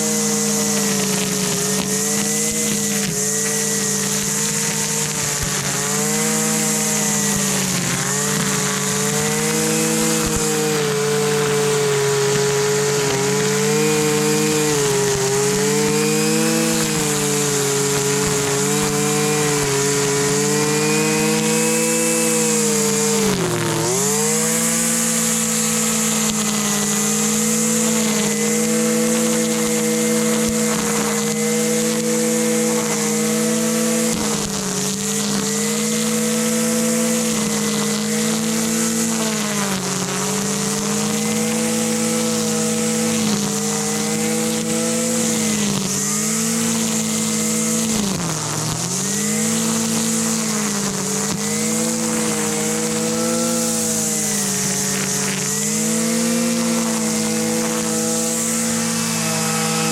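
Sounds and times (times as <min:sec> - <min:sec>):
string trimmer engine running: 0:00.0 - 0:59.9.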